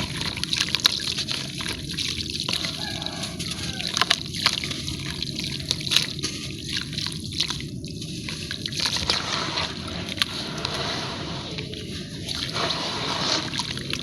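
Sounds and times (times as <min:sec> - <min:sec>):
water trickling and sloshing: 0:00.0 - 0:14.0.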